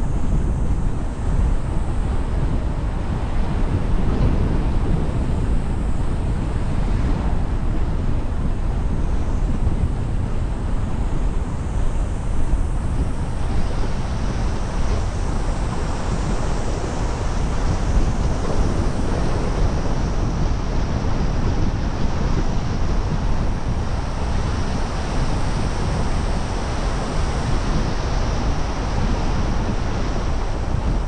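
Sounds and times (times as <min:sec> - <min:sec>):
car road and wind noise: 0:00.0 - 0:31.0.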